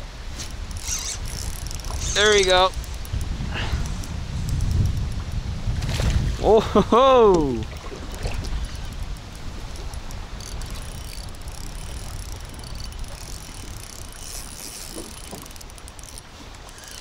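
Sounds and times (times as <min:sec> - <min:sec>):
water lapping at a kayak: 0:00.0 - 0:17.0
wind buffeting microphone: 0:00.0 - 0:17.0
fishing reel clicking: 0:00.4 - 0:05.3, 0:08.2 - 0:17.0.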